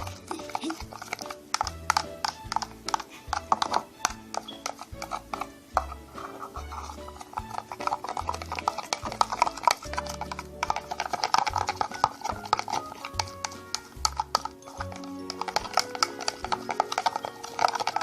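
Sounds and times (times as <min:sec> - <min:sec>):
quick sharp clicks and taps: 0:00.0 - 0:18.0.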